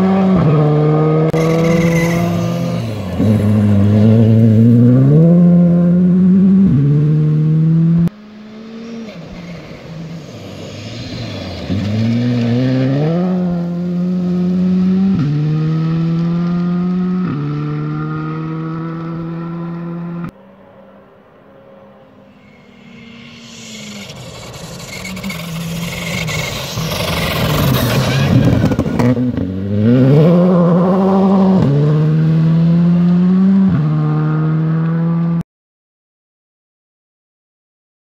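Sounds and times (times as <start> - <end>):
rally car engines revving: 0.0 - 20.4, 22.0 - 35.4.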